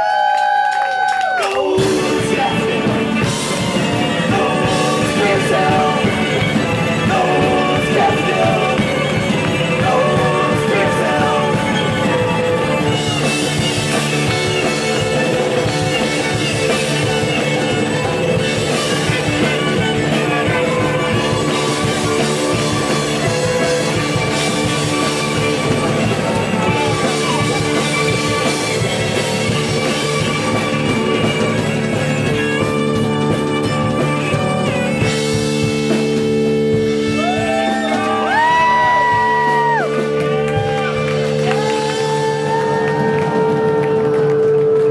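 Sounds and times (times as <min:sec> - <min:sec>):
rock band playing live: 0:01.4 - 0:44.9.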